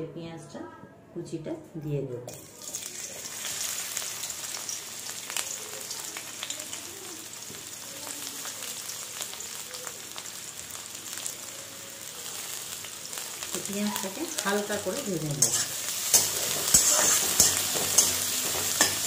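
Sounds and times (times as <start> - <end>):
onion sizzling in hot oil: 2.3 - 19.0.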